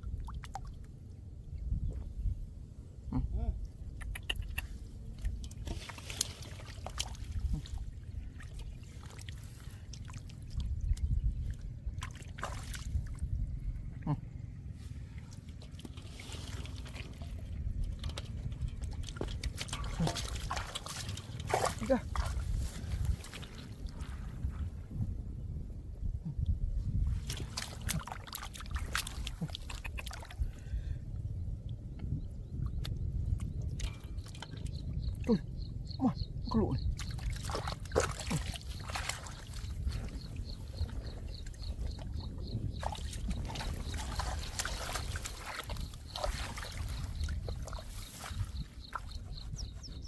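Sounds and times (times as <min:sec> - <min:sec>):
splashing in muddy water: 0:04.0 - 0:24.9, 0:26.3 - 0:30.8, 0:32.6 - 0:50.0.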